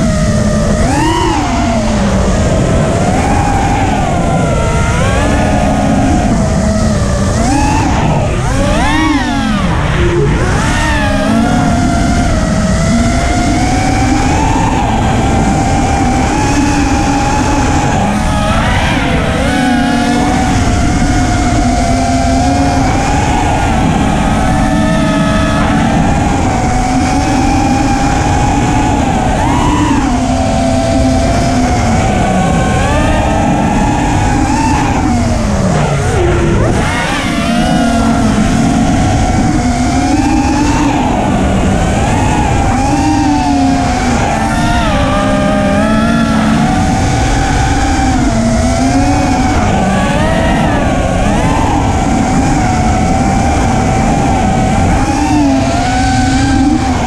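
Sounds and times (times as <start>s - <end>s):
quadcopter motors whining: 0.0s - 57.0s
wind rushing over microphone: 0.0s - 57.0s.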